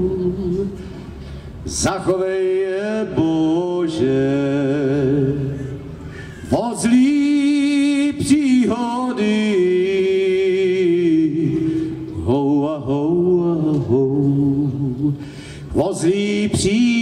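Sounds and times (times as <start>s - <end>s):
man singing folk song: 1.6s - 5.6s, 6.5s - 17.0s.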